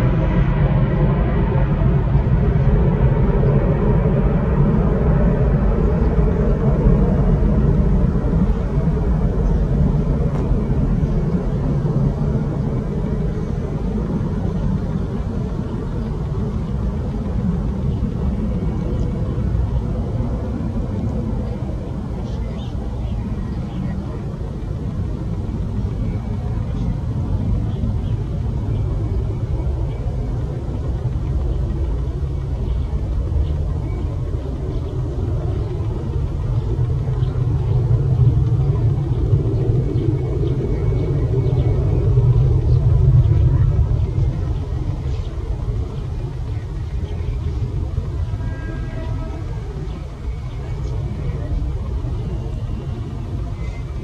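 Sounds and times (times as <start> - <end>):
jet engines at takeoff power: 0.0 - 54.0.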